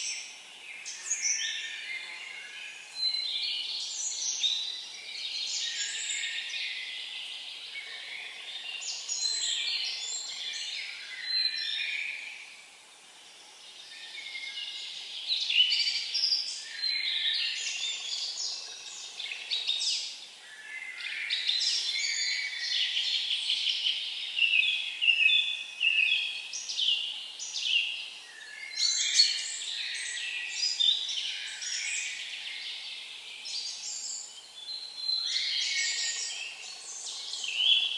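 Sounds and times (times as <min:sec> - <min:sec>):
songbirds singing: 0:00.0 - 0:37.9.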